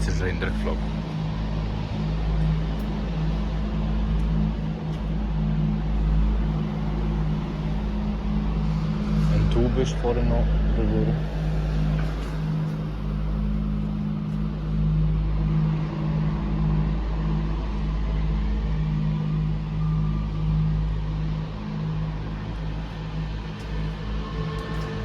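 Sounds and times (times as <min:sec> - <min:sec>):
traffic engine hum: 0:00.0 - 0:25.0.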